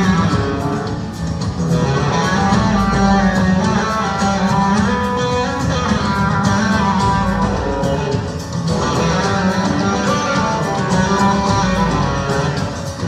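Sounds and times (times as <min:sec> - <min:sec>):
live band playing a song: 0:00.0 - 0:13.0.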